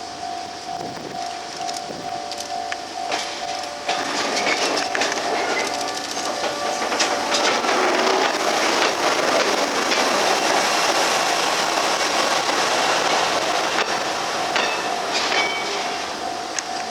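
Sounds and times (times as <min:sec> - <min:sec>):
rail vehicle rumble and clatter: 0:00.0 - 0:16.9.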